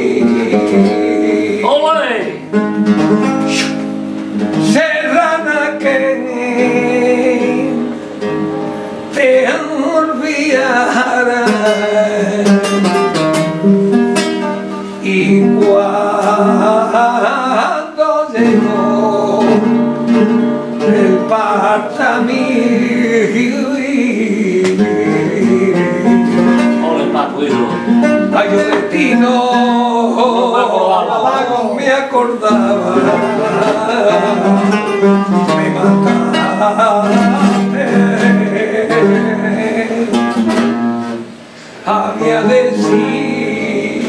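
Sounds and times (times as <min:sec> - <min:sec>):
flamenco guitar: 0:00.0 - 0:44.0
man singing flamenco: 0:00.0 - 0:44.0.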